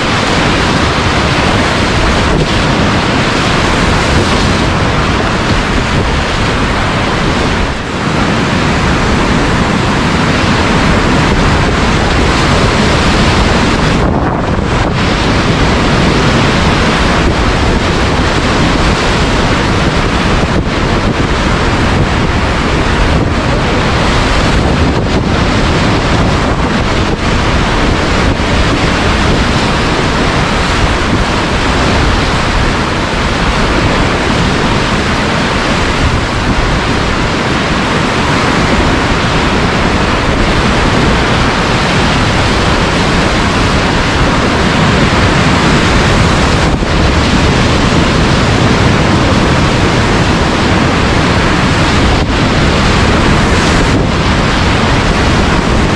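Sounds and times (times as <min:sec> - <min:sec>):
whitewater rapids rushing: 0:00.0 - 0:55.9
wind buffeting microphone: 0:00.0 - 0:55.9.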